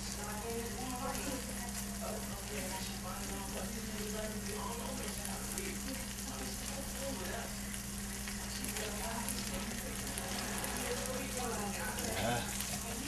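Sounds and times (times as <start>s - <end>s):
food sizzling with crackles: 0.0s - 13.0s.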